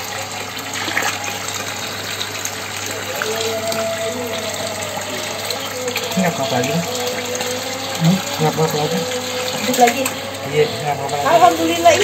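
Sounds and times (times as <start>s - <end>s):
water splashing in fish tank: 0.0s - 12.0s.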